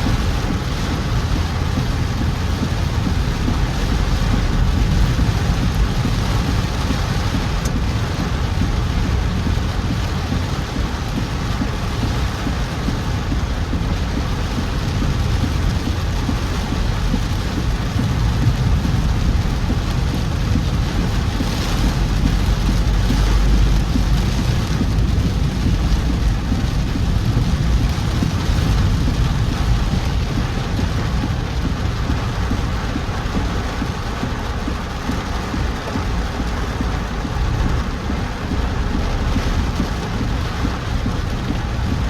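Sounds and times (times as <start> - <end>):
deep low rumble: 0.0 - 42.0
heavy rain: 0.0 - 42.0.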